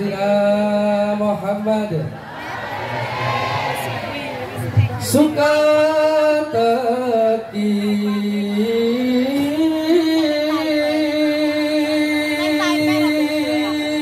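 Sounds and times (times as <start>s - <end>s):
devotional singing over loudspeaker: 0.0s - 2.3s, 3.1s - 14.0s.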